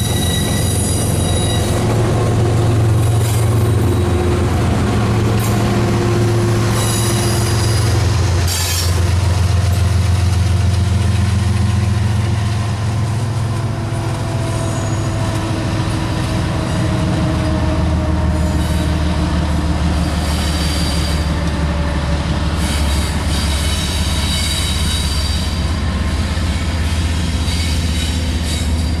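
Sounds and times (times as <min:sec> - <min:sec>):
locomotive diesel engine drone: 0:00.0 - 0:27.5
wheels squealing on rails: 0:00.0 - 0:29.0.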